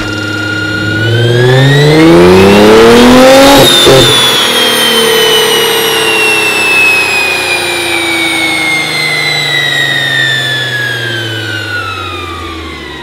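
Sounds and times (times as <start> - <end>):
car engine winding down: 0.0 - 13.0
high turbo whine: 0.0 - 13.0.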